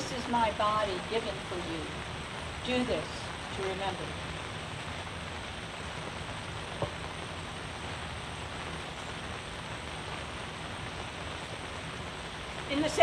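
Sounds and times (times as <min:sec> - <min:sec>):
rain on a fabric canopy: 0:00.0 - 0:13.0.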